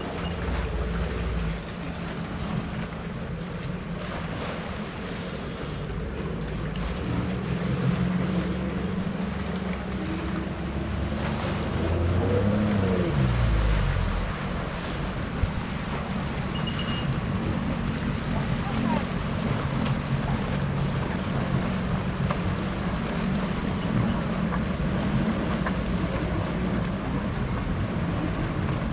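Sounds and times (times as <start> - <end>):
jet ski engine: 0.0 - 28.9.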